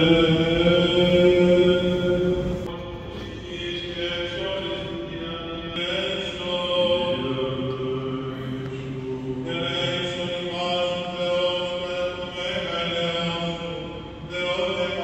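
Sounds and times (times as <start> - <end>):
men chanting long notes: 0.0 - 15.0.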